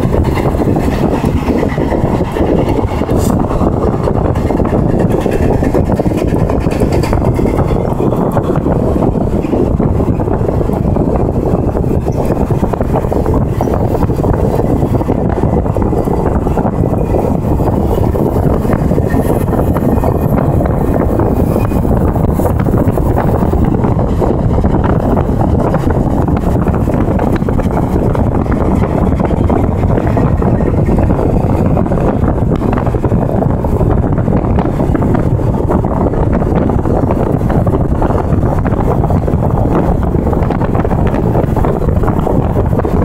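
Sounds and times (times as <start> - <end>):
road rumble: 0.0 - 43.0
rushing wind: 0.0 - 43.0
wind buffeting microphone: 0.0 - 43.0.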